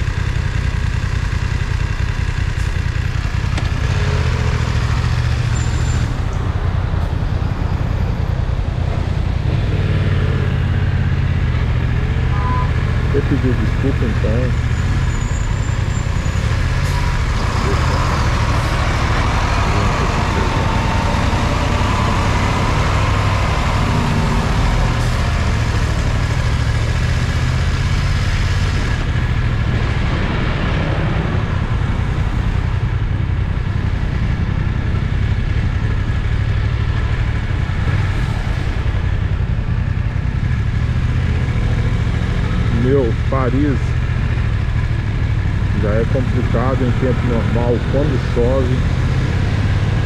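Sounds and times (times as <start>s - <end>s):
motorcycle engine: 0.0s - 50.0s
traffic rumble: 0.0s - 50.0s
truck driving alongside: 0.0s - 50.0s.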